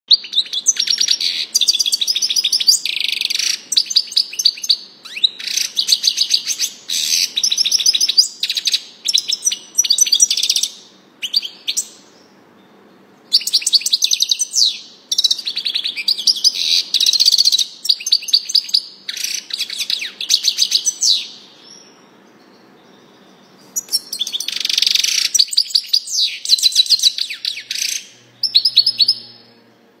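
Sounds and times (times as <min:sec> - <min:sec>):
finch singing tinkling twitters: 0:00.2 - 0:29.6.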